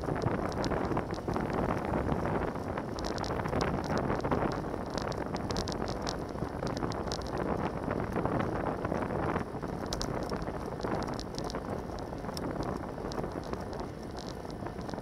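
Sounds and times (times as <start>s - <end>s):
small scattered ticks: 0.0s - 15.0s
wind rushing over microphone: 0.0s - 15.0s.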